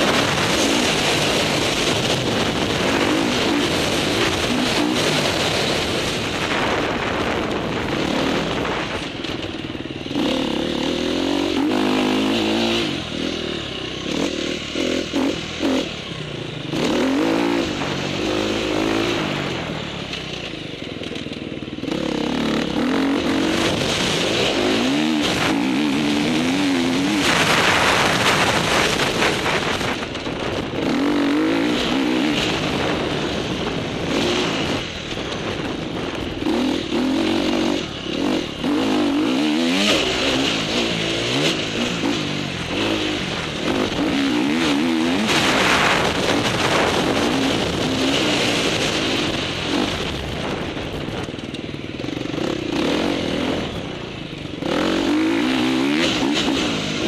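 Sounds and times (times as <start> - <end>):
motocross bike engine revving: 0.0 - 57.0
steady rushing noise: 0.0 - 57.0.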